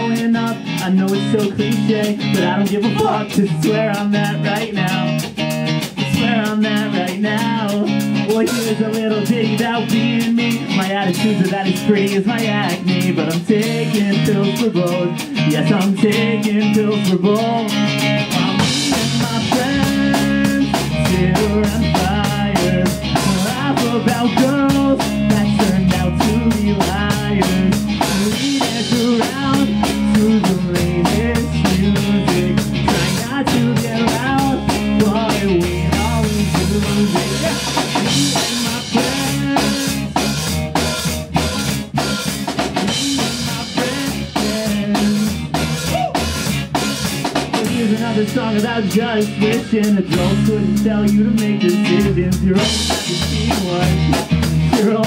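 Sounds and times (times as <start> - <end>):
bass guitar: 0.0 - 55.0
drum kit driving beat: 0.0 - 55.0
electric guitars: 0.0 - 55.0.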